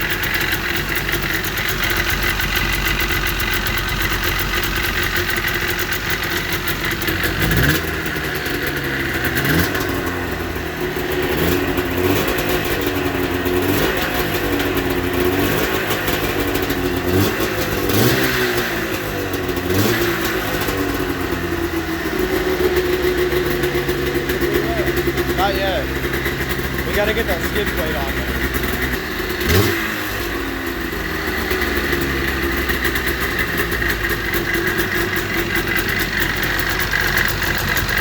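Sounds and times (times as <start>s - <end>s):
snowmobile engine idling and revving: 0.0s - 38.0s.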